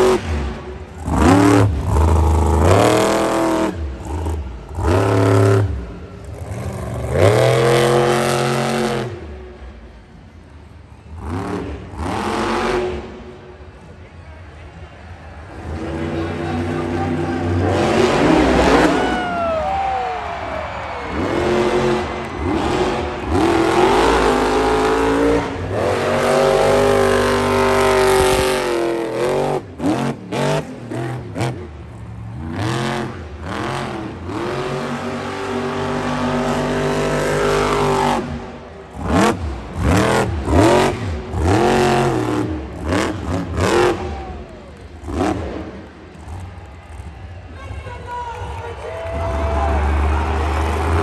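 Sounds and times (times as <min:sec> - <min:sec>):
truck engine revving hard: 0:00.0 - 0:09.7, 0:11.0 - 0:13.4, 0:15.5 - 0:19.6, 0:20.8 - 0:47.1, 0:49.3 - 0:51.0.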